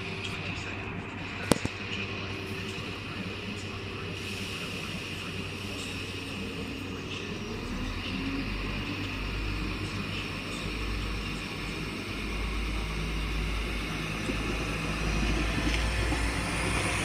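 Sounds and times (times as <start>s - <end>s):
diesel train engines humming: 0.0s - 17.0s
train rumbling: 0.0s - 17.0s.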